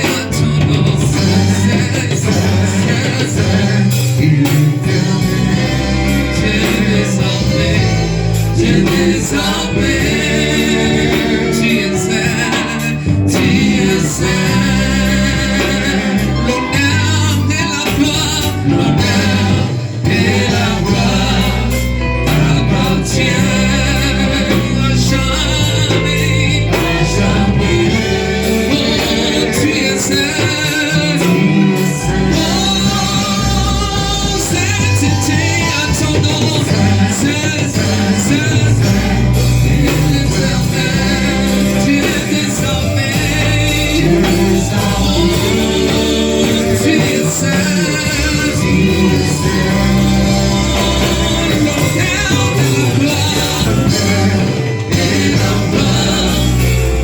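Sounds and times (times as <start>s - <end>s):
gospel singing with band: 0.0s - 57.0s.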